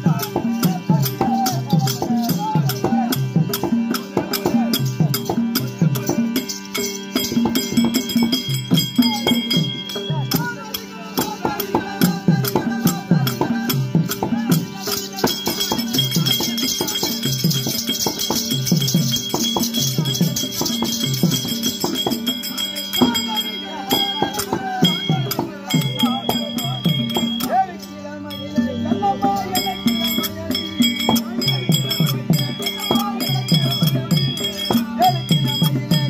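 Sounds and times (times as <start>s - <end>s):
harmonium holding steady tones: 0.0s - 36.0s
jingling bells rattle: 0.0s - 36.0s.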